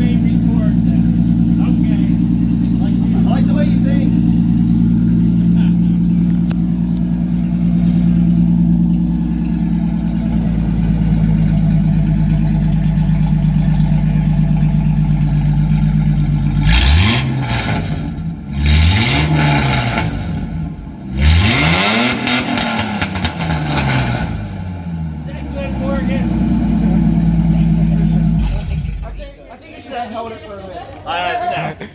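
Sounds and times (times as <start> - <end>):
truck engine idling and revving: 0.0 - 30.3.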